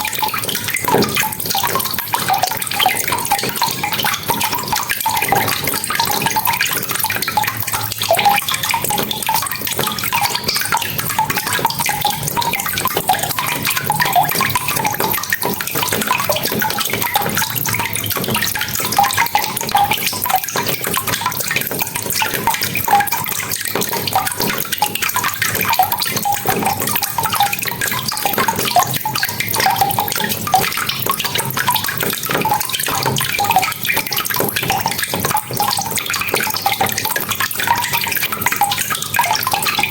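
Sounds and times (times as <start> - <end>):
close drips and splashes: 0.0 - 39.9.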